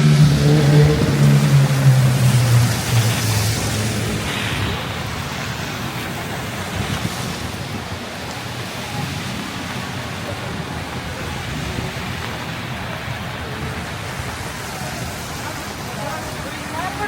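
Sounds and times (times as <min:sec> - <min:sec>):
heavy rain on street: 0:00.0 - 0:17.0
road traffic rumble: 0:00.0 - 0:17.0.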